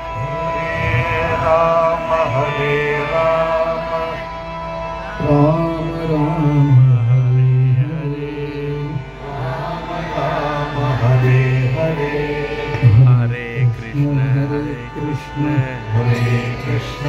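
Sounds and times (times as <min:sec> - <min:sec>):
man chanting devotional song: 0:00.0 - 0:17.0
steady drone: 0:00.0 - 0:17.0.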